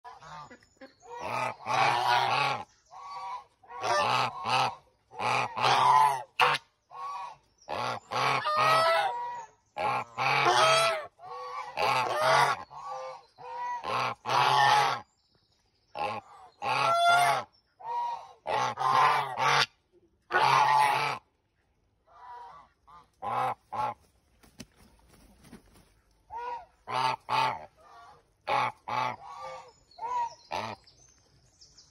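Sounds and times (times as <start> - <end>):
geese honking: 0.1 - 15.0, 16.0 - 19.7, 20.3 - 21.2, 22.1 - 24.0, 26.3 - 30.8.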